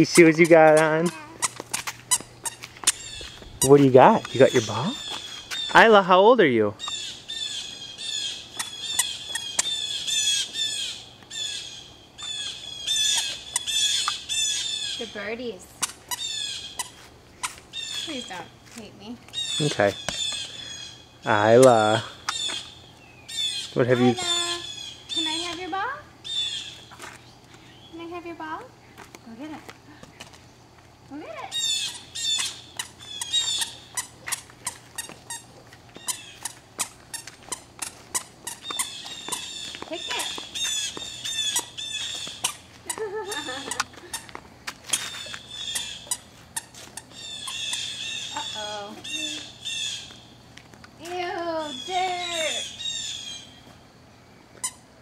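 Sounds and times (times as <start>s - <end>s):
squeaker shoes squeaking: 0.0s - 6.1s, 6.8s - 18.6s, 19.3s - 27.3s, 31.4s - 50.4s, 54.6s - 54.9s.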